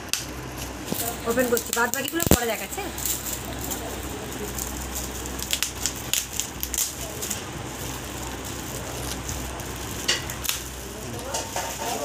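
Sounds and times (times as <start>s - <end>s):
gift wrap crinkling and tearing: 0.6s - 12.0s.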